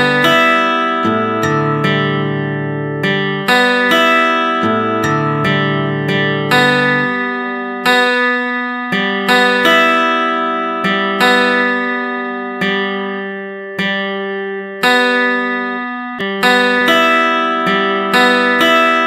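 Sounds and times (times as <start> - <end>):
acoustic guitar slow chords: 0.0 - 19.0.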